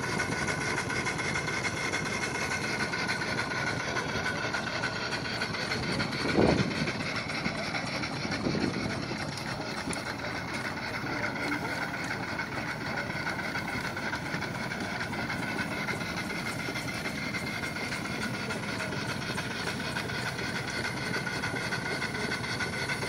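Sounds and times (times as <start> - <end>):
steam engine running: 0.0 - 23.0.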